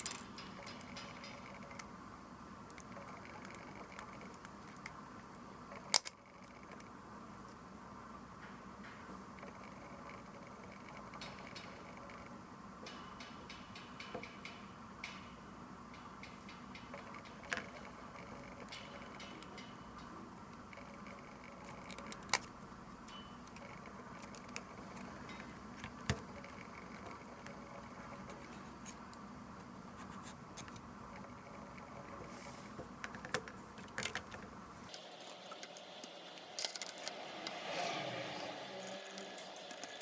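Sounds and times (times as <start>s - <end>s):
low background hum: 0.0s - 40.0s.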